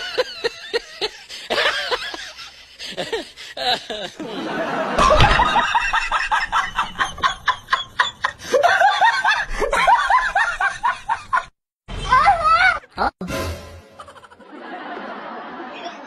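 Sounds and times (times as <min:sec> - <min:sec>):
people laughing and snickering: 0:00.0 - 0:11.5, 0:14.0 - 0:16.0.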